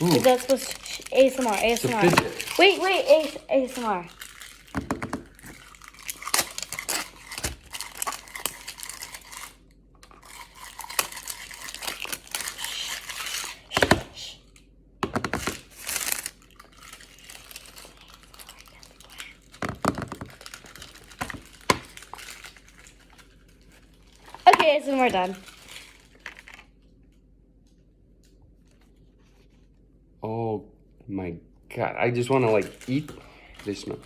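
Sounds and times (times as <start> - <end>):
plastic packaging crinkling and tearing: 0.0 - 14.6, 15.2 - 27.0, 32.2 - 34.0.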